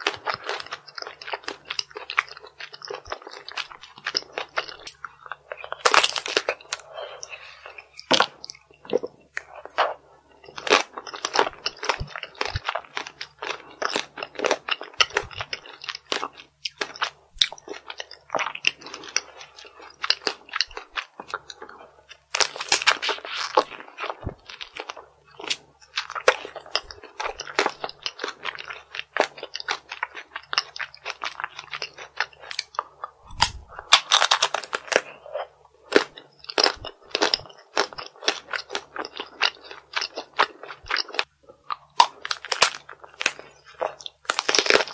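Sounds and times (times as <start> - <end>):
crunching and chewing candy: 0.0 - 44.9.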